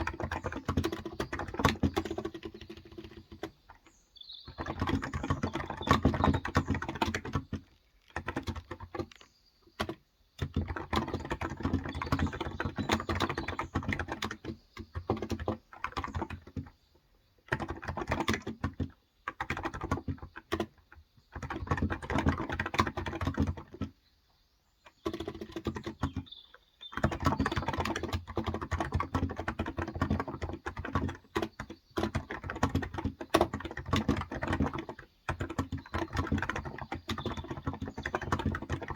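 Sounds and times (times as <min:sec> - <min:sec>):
keyboard typing: 0:00.0 - 0:03.9, 0:04.5 - 0:16.7, 0:17.5 - 0:23.9, 0:24.9 - 0:38.9.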